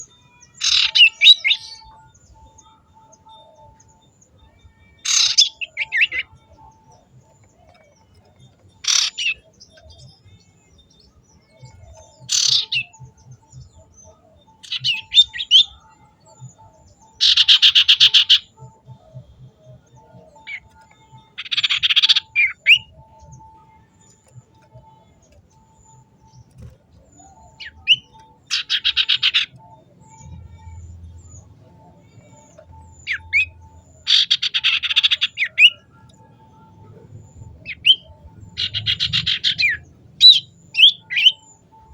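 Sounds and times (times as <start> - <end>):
songbird chirping and trilling: 0.0 - 41.9.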